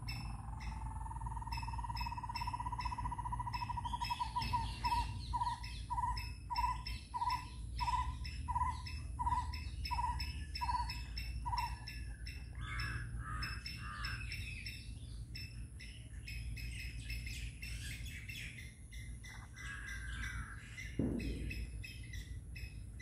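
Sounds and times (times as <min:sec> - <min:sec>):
bird trilling: 0:00.0 - 0:23.0.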